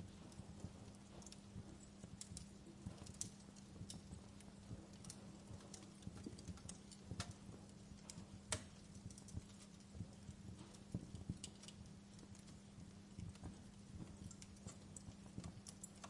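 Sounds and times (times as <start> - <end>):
faint low hum: 0.0 - 16.0
wood fire crackling: 0.0 - 16.0.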